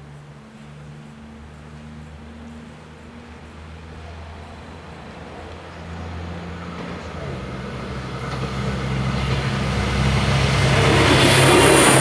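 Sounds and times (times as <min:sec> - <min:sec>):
rail noise: 0:00.0 - 0:12.0
train engine hum: 0:00.0 - 0:12.0.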